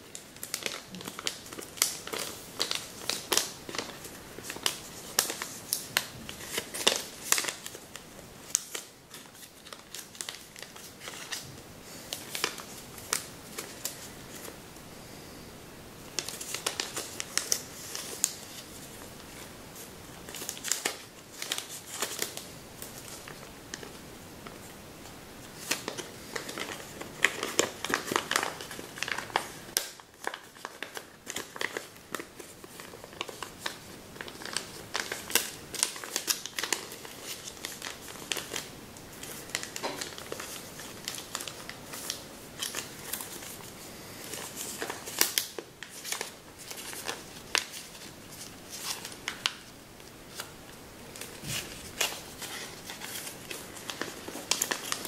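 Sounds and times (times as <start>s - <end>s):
paper crinkling and rustling: 0.0s - 14.6s, 16.1s - 24.8s, 25.4s - 55.0s.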